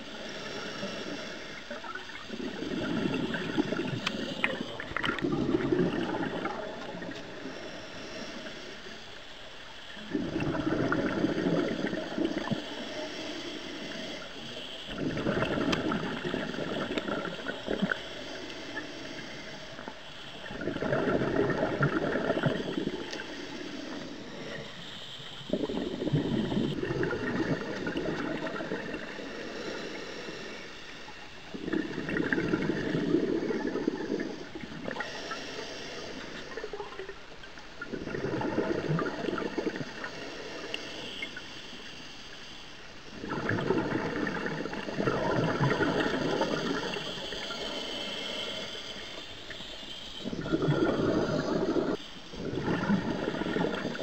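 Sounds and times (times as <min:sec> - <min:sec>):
scuba regulator bubbles: 0:00.0 - 0:54.0.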